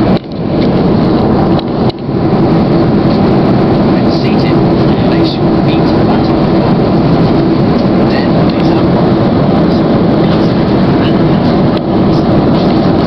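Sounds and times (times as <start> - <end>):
airliner cabin rush: 0.0 - 13.0.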